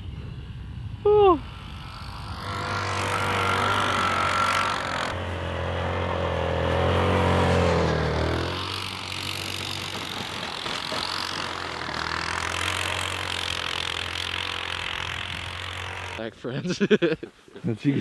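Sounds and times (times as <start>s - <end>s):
atv engine revving: 1.0s - 16.2s.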